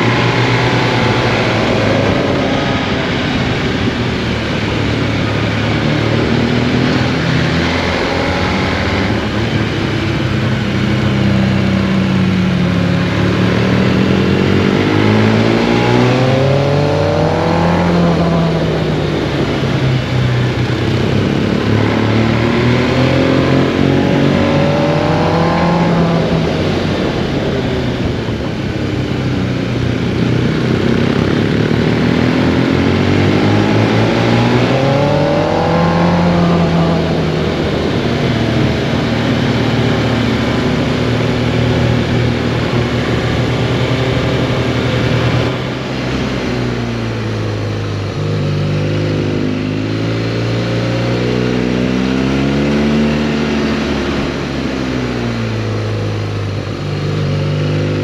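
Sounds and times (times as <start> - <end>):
motorcycle engine revving: 0.0 - 58.0
steady rush of noise: 0.0 - 58.0.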